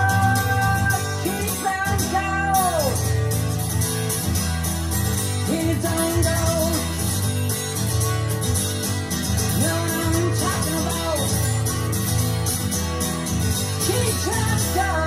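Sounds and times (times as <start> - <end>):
guitar over bass: 0.0 - 15.0.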